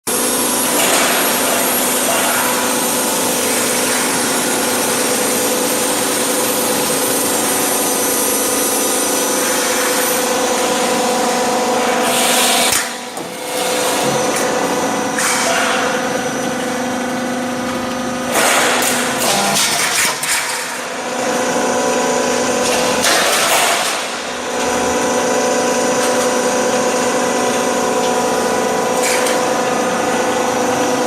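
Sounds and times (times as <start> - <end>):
roll forming machine drone: 0.1 - 31.0.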